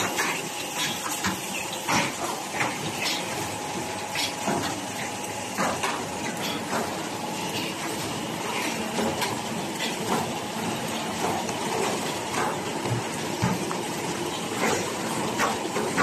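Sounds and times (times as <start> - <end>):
wrapping machine whirring and clacking: 0.0 - 16.0.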